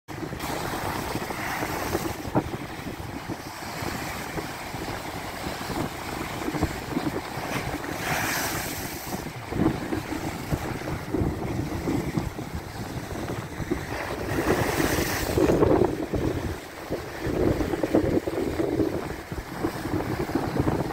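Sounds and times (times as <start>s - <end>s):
wind buffeting microphone: 0.1s - 20.9s.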